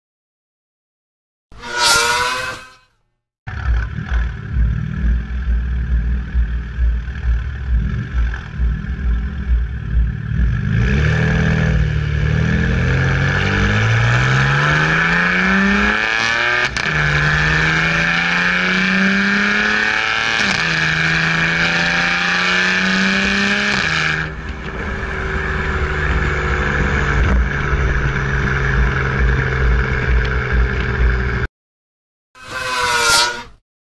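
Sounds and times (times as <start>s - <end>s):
car exhaust accelerating: 3.5s - 31.5s.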